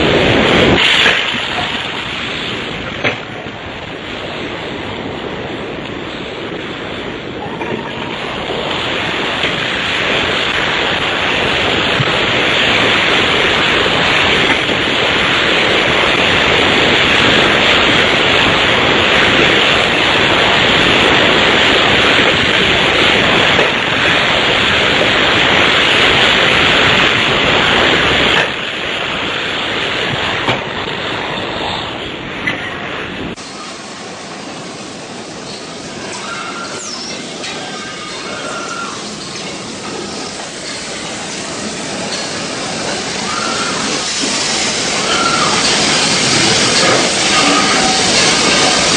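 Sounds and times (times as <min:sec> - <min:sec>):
production-line machinery rushing: 0:00.0 - 0:48.9.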